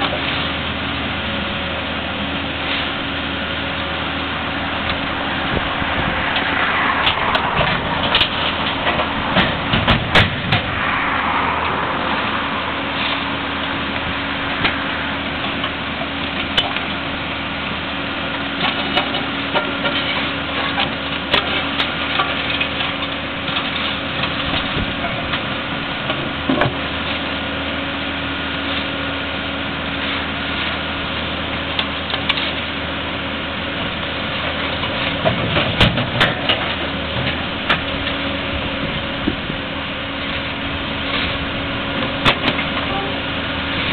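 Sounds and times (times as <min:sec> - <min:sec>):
backhoe diesel engine running: 0:00.0 - 0:43.9.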